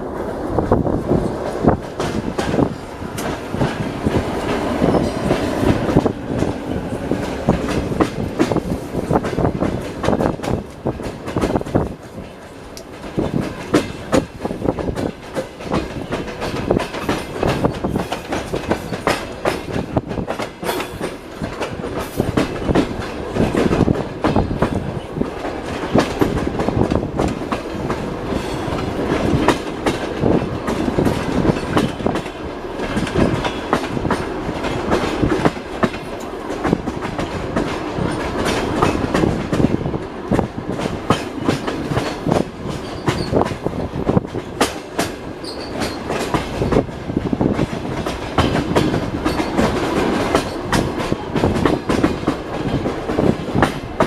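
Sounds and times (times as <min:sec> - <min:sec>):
train running rumble: 0:00.0 - 0:54.0
wheels clattering over rail joints: 0:01.4 - 0:54.0.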